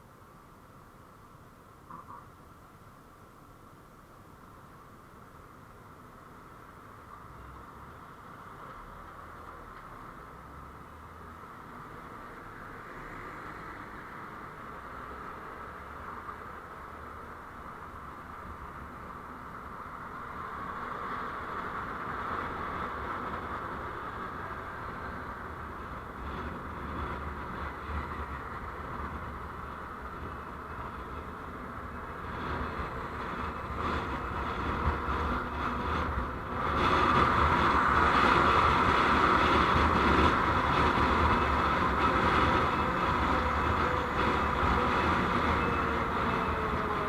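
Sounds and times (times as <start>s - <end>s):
vehicle road noise: 0.0s - 47.0s.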